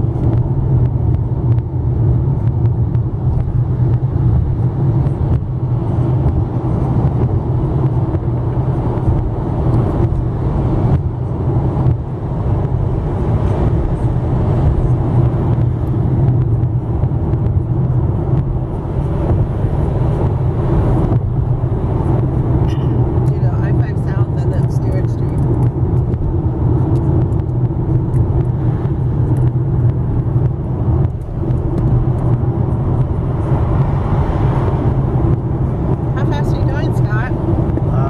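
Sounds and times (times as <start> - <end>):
car driving at speed: 0.0 - 38.0.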